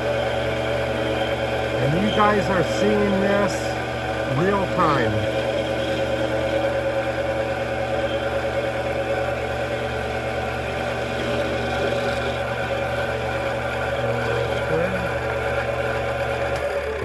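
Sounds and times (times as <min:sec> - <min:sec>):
metal lathe running: 0:00.0 - 0:17.0.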